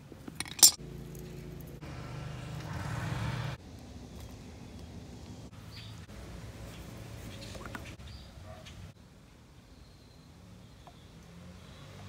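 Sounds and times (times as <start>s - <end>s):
engine hum: 0.0s - 9.0s, 10.3s - 12.0s.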